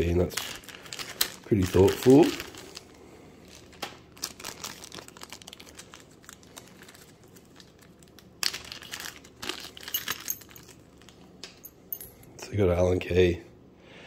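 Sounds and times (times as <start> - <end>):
plastic zip bags crinkling: 0.0 - 11.3.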